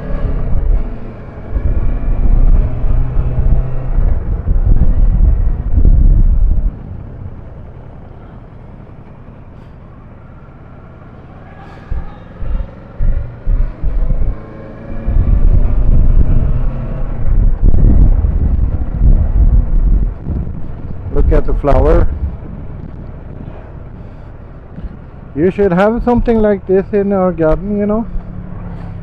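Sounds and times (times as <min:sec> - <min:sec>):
motorcycle road noise: 0:00.0 - 0:29.0
wind buffeting microphone: 0:00.0 - 0:29.0.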